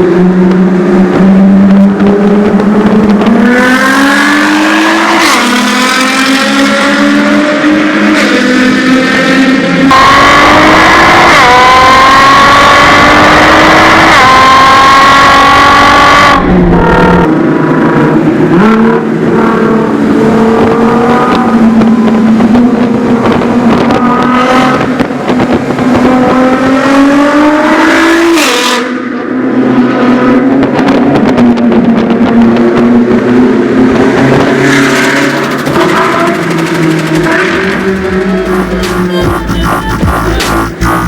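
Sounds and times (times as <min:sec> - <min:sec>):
car engine accelerating hard: 0:00.0 - 0:41.0.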